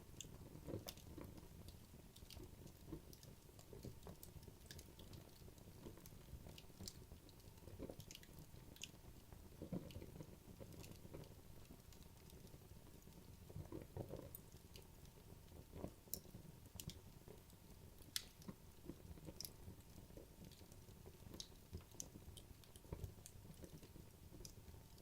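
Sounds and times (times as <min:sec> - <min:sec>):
logs crackling in fireplace: 0:00.0 - 0:25.0.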